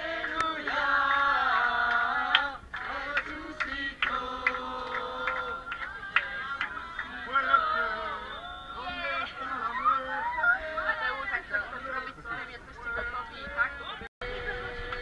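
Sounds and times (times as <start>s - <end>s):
young voices singing together: 0.0s - 11.6s, 14.2s - 15.0s.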